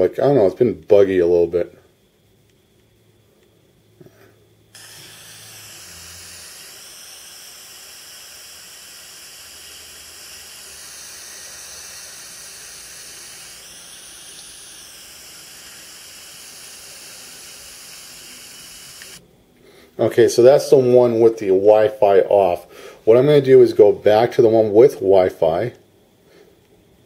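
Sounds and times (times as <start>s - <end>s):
steady recording hiss: 0.0s - 27.0s.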